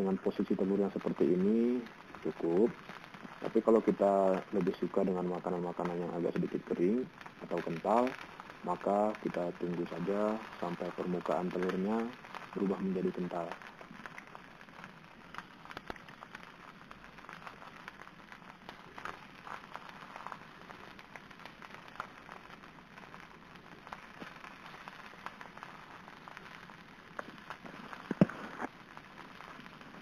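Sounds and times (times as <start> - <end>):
egg sizzling and crackling: 0.0 - 30.0.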